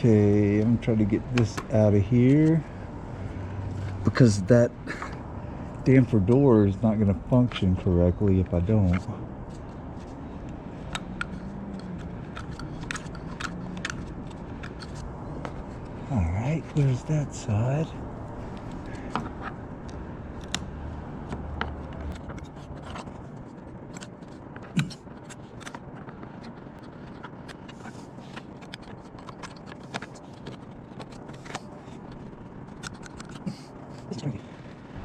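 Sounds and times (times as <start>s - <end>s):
hands clicking and scraping plastic: 0.0s - 2.6s, 6.2s - 16.0s, 18.5s - 34.9s.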